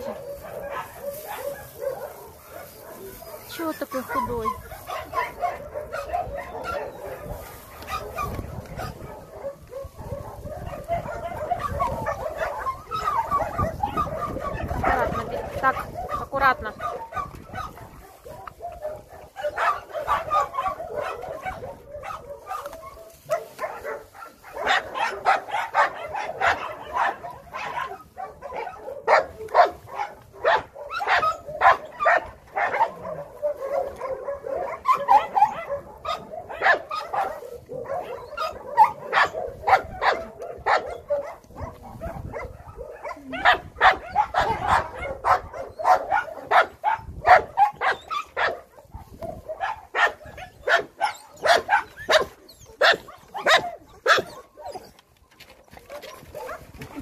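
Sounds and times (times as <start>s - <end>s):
dogs barking: 0.0s - 57.0s.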